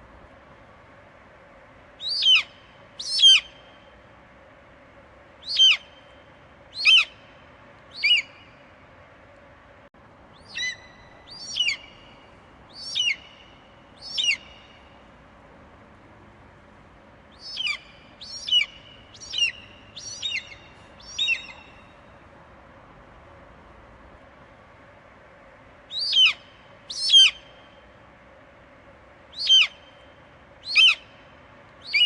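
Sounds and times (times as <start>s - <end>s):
faint steady hiss: 0.0s - 32.0s.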